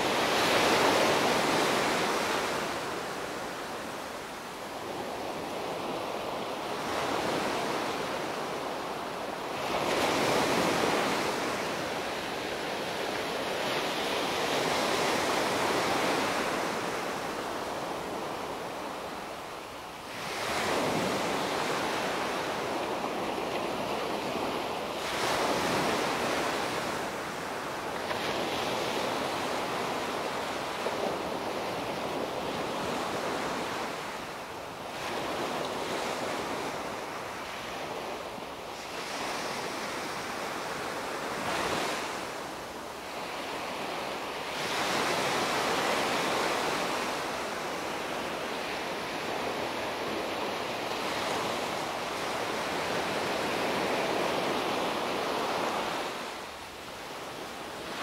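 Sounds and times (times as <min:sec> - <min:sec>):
sea waves breaking on beach: 0:00.0 - 0:19.5, 0:20.1 - 0:58.0.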